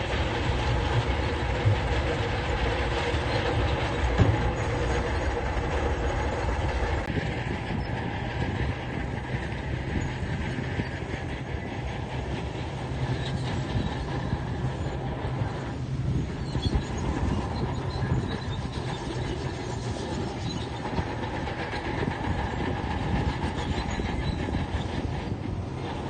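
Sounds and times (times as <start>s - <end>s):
diesel engine rumbling: 0.0s - 26.0s.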